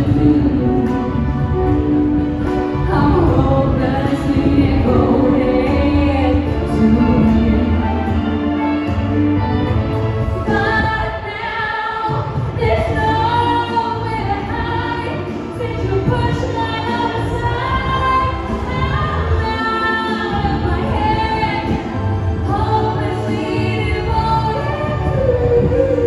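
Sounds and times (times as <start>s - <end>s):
woman singing into microphone: 0.0s - 9.6s, 10.2s - 26.0s.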